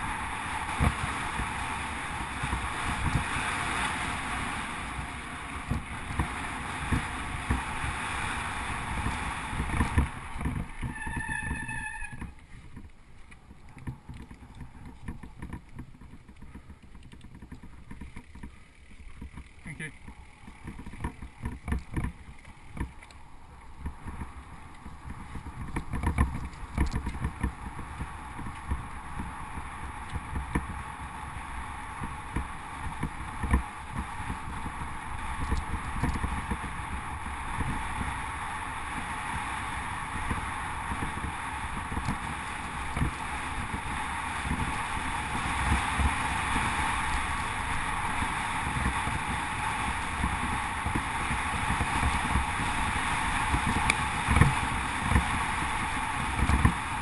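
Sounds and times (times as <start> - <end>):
bike knocks and rattles: 0.0 - 57.0
tyres rumbling over dirt: 0.0 - 57.0.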